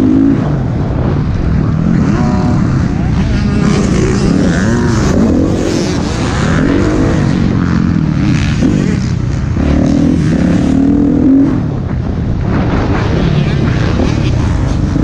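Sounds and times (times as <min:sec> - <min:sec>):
dirt bike engine revving: 0:00.0 - 0:15.0
rush of wind: 0:00.0 - 0:15.0
track noise: 0:00.0 - 0:15.0.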